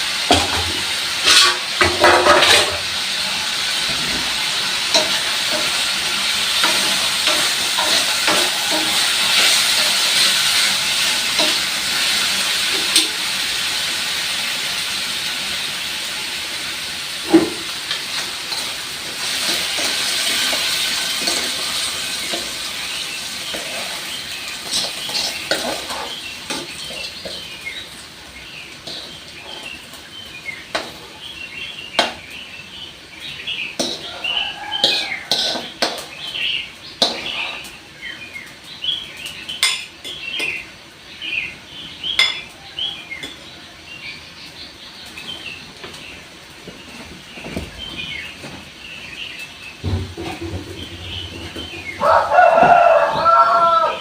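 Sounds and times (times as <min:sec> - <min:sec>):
oil sizzling in a pan: 0:00.0 - 0:47.4, 0:48.3 - 0:54.0.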